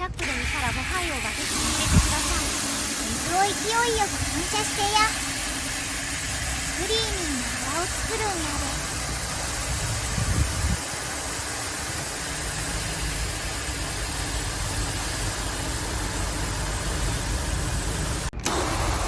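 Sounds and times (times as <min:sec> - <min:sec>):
water jet hissing: 0:00.2 - 0:19.0.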